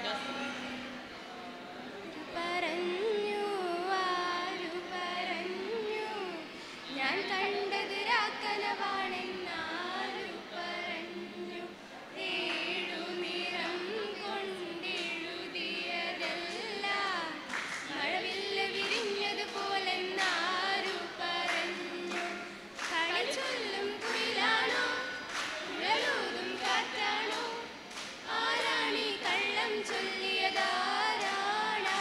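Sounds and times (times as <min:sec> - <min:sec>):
group singing into microphones: 0:00.0 - 0:32.0.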